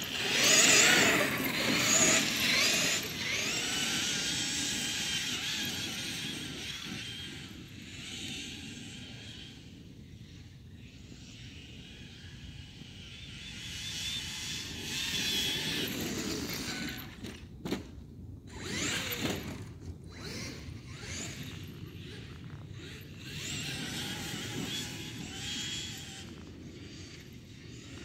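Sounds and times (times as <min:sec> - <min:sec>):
electric motor whine: 0:00.0 - 0:17.2, 0:18.5 - 0:28.0.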